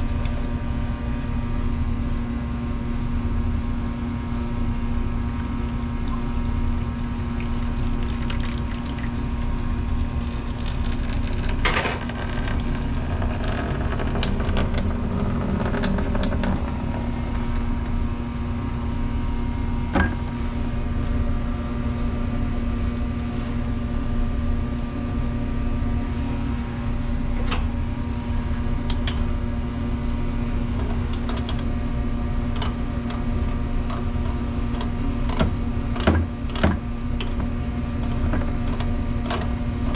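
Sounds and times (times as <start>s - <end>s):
dishwasher motor humming and whining: 0.0s - 39.9s.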